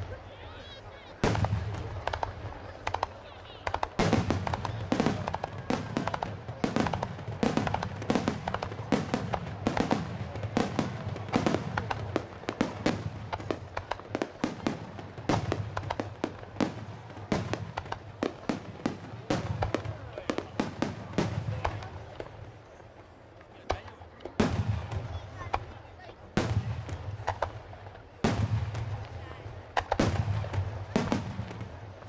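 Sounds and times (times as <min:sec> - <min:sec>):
fireworks bursting with sharp bangs: 0:00.0 - 0:32.0.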